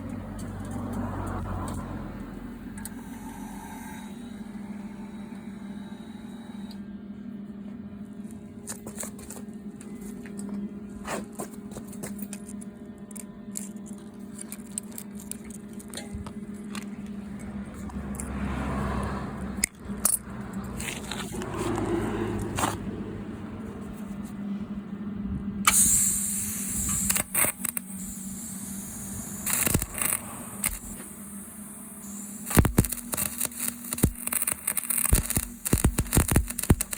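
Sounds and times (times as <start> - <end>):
welding machine humming: 0.0 - 6.9, 8.1 - 22.6, 25.6 - 36.9.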